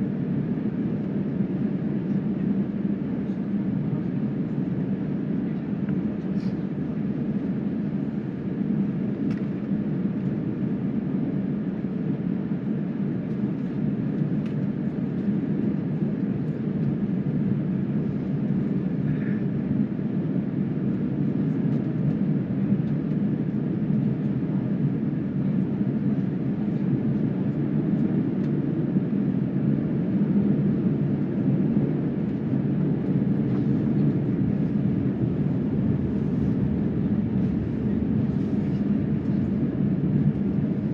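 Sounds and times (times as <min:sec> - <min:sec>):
jet engine rumble inside cabin: 0:00.0 - 0:40.9.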